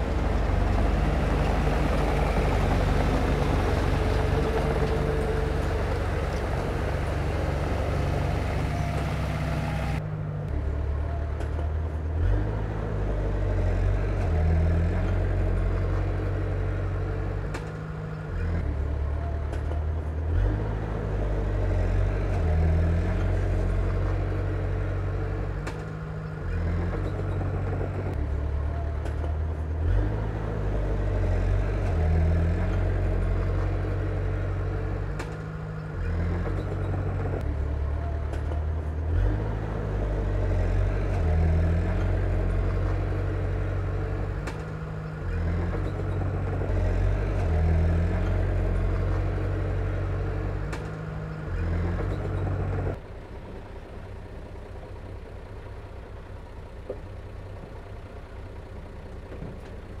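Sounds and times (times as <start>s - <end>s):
bulldozer diesel engine under load: 0.0s - 60.0s.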